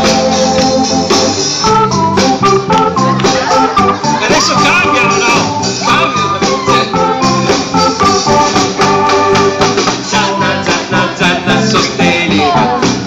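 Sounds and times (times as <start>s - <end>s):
song with organ-like keyboard chords: 0.0s - 13.0s.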